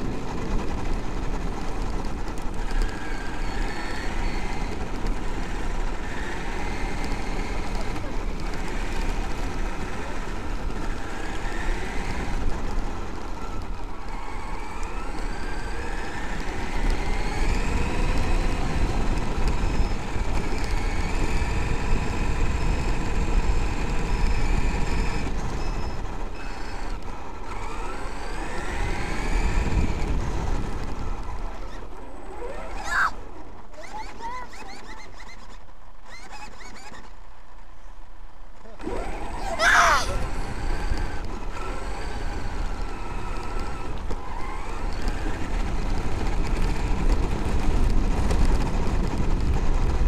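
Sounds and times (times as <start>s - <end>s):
electric motor whining: 0.0s - 33.2s, 38.8s - 50.0s
tyres rumbling on gravel: 0.0s - 34.8s, 35.4s - 50.0s.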